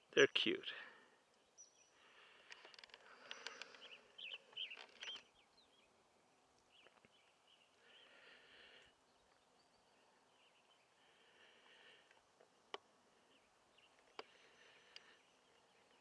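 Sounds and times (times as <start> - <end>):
soft buzzing hiss: 0.0 - 16.0.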